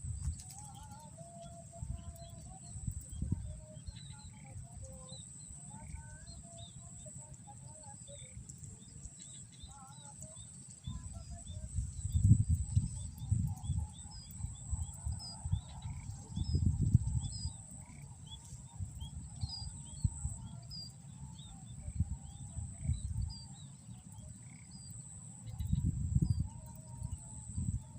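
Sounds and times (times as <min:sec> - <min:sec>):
wild birds chirping: 0:00.0 - 0:27.9.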